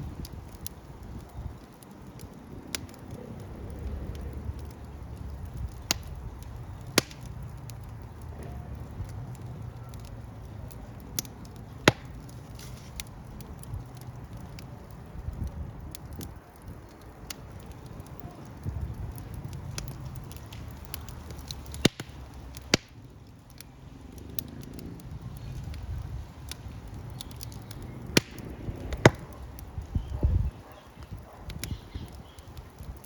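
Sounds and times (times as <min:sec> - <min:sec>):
sharp snaps and pops: 0:00.0 - 0:33.0
wood fire crackling: 0:00.0 - 0:33.0.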